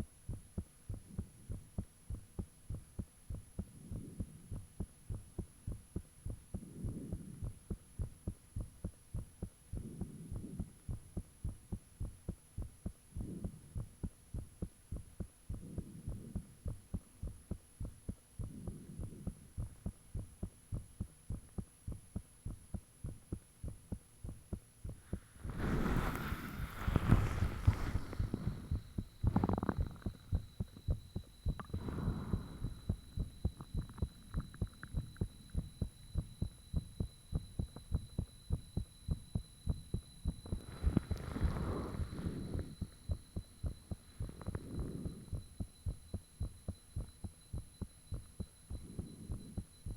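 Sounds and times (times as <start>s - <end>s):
faint high whine: 0.0s - 49.9s
heartbeat thumps: 0.0s - 49.9s.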